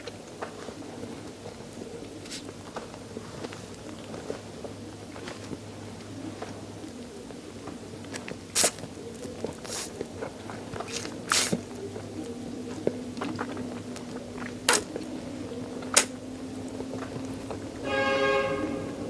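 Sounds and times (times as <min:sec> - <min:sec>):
crunching on bones: 0:00.0 - 0:17.8
quiet mouth sounds: 0:00.8 - 0:16.2.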